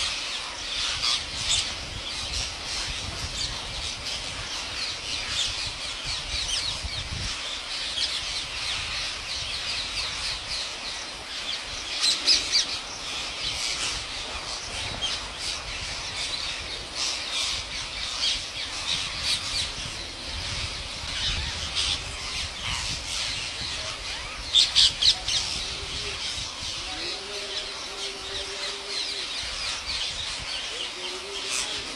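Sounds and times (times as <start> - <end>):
flock of parakeets squawking: 0.0 - 31.9.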